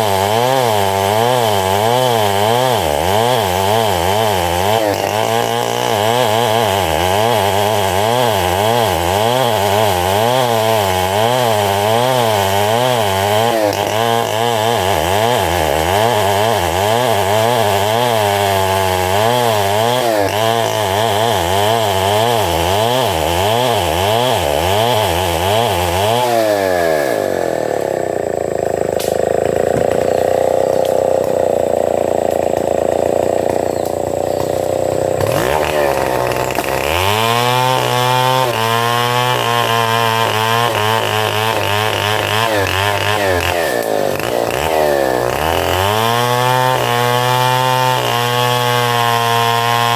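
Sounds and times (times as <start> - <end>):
engine-driven sawing machine: 0.0 - 49.9.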